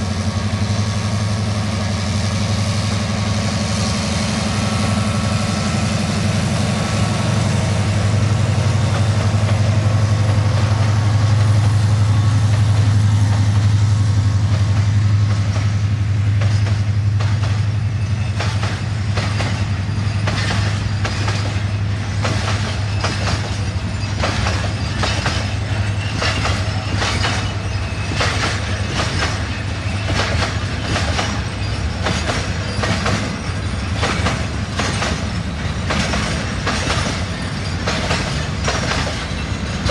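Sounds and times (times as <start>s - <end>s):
diesel locomotive engine drone: 0.0s - 39.9s
train wheels clacking over rail joints: 4.6s - 39.9s.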